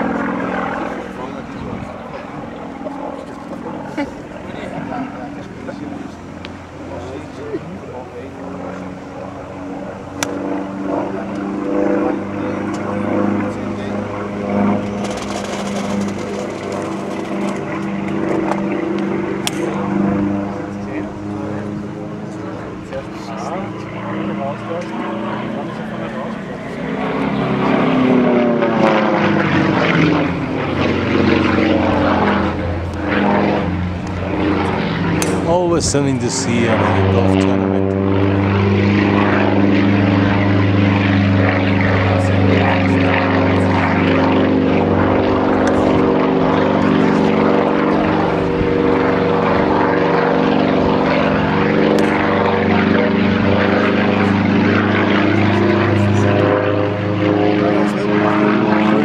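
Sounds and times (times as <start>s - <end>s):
propeller plane flying overhead: 0.0s - 59.0s.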